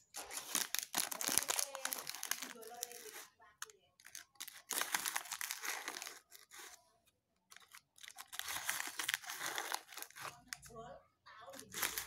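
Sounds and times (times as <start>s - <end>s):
foil sachet crinkling: 0.1s - 6.8s, 7.5s - 10.8s, 11.5s - 12.0s
plastic spoon scooping powder: 0.2s - 6.8s, 7.5s - 10.8s.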